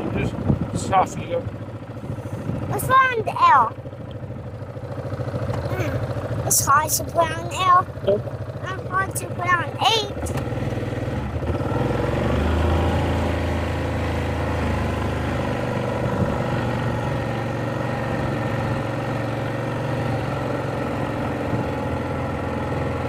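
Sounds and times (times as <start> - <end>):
engine running at low speed: 0.0 - 23.0.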